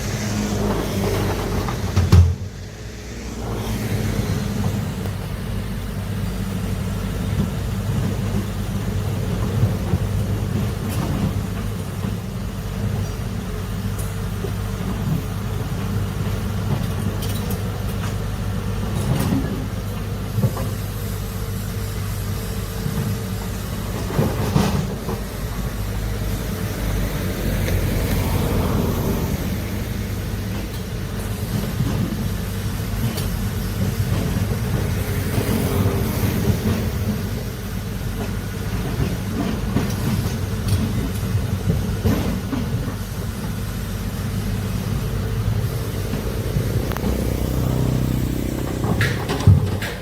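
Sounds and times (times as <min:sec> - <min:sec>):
excavator engine running: 0:00.0 - 0:50.0.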